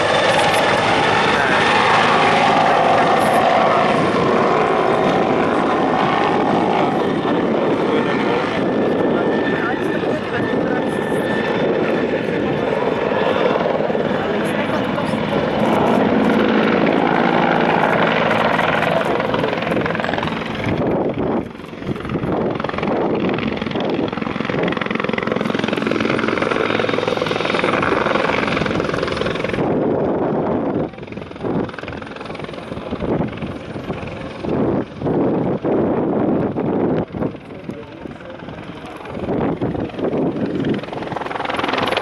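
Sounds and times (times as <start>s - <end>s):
helicopter rotor and turbine noise: 0.0s - 42.0s.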